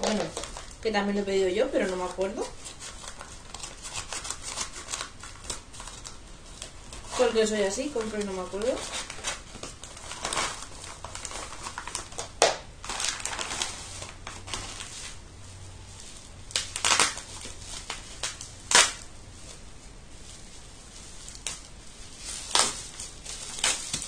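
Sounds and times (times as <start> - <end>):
low background hum: 0.0 - 24.0
plastic and bubble wrap crinkling: 0.0 - 24.0.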